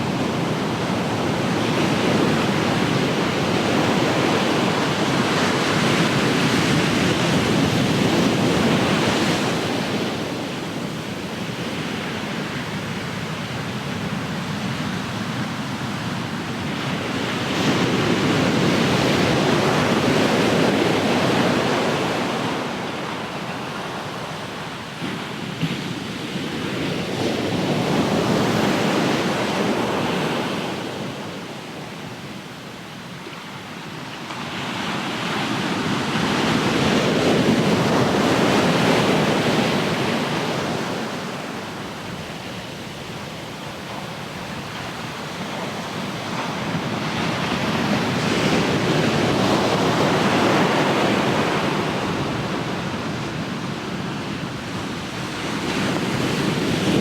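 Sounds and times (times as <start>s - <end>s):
ocean surf washing onto shore: 0.0s - 57.0s.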